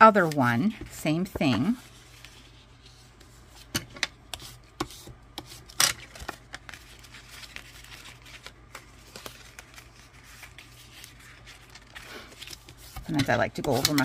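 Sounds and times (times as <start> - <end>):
paper rubbing and rustling: 0.0 - 3.7, 4.3 - 14.0
paper folding taps and scrapes: 0.1 - 14.0.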